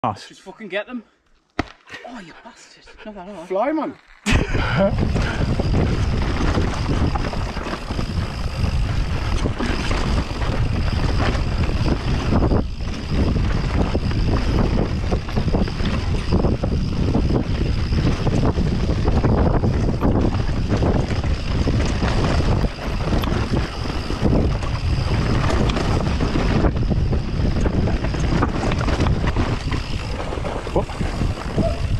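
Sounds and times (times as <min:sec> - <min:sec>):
bike tyre roar: 0:03.6 - 0:31.9
bike knocking and rattling: 0:04.2 - 0:31.9
wind rushing over microphone: 0:04.3 - 0:31.9.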